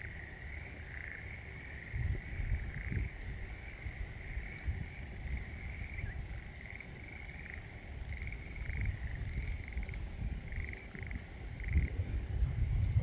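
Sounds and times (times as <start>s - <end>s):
frogs trilling: 0.0s - 12.2s.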